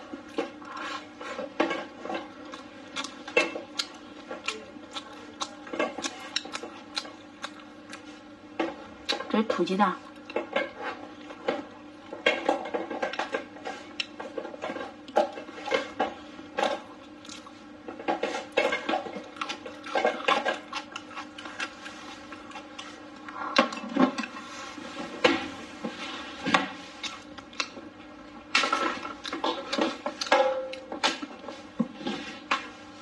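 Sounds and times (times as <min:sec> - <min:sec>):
close-up chewing and mouth sounds: 0:00.0 - 0:32.8
faint steady hum: 0:00.0 - 0:33.0.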